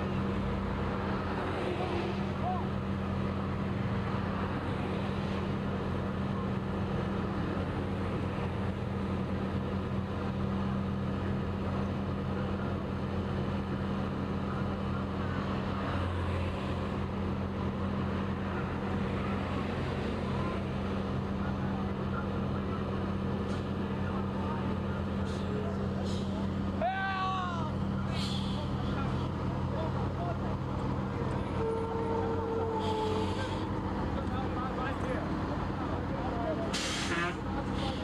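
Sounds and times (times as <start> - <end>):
low drone of vehicle engines: 0.0 - 38.0.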